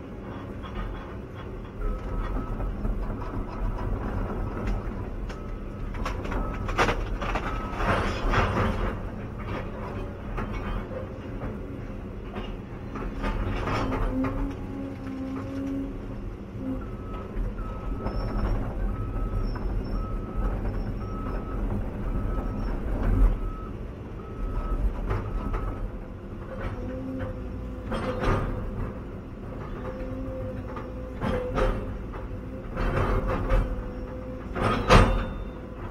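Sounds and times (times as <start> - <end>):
excavator engine droning: 0.0 - 35.9.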